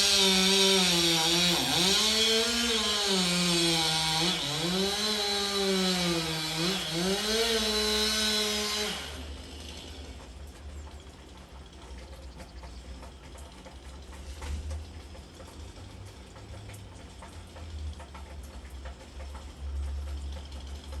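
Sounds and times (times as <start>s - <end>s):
rain pattering and dripping: 0.0s - 21.0s.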